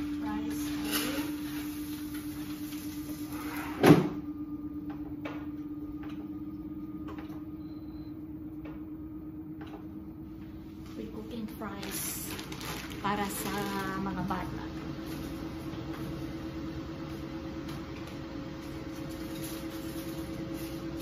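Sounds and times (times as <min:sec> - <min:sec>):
air fryer humming and hissing: 0:00.0 - 0:21.0.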